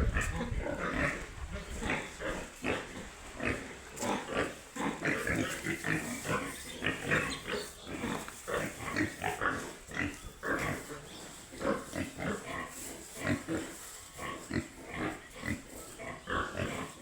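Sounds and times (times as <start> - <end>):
baby pigs grunting: 0.0 - 17.0.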